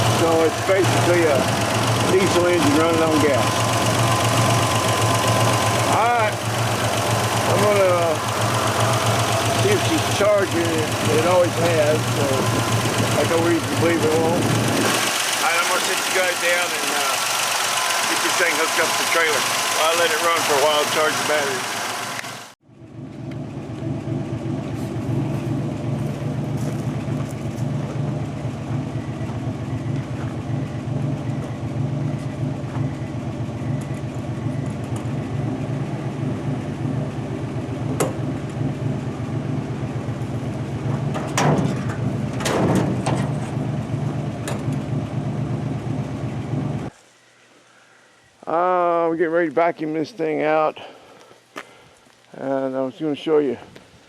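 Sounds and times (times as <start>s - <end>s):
engine idling: 0.0s - 47.0s.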